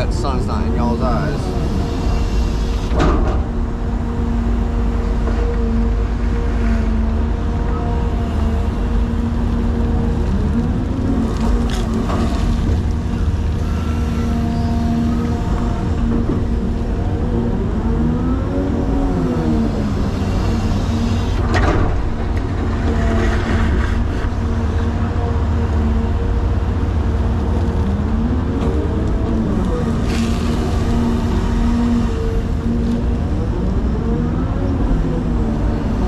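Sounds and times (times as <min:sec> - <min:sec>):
engine whine: 0:00.0 - 0:36.0
excavator diesel engine running: 0:00.0 - 0:36.0.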